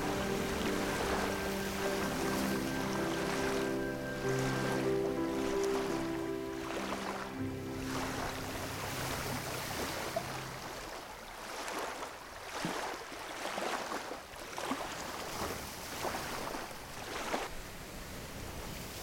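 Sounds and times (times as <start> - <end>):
water splashing and lapping: 0.0 - 17.7
wind: 0.0 - 19.0.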